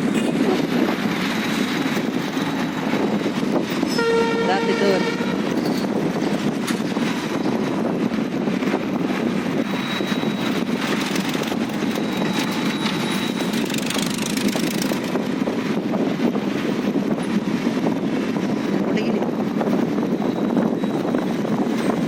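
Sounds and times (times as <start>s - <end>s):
vehicle travel rumble: 0.0s - 22.0s.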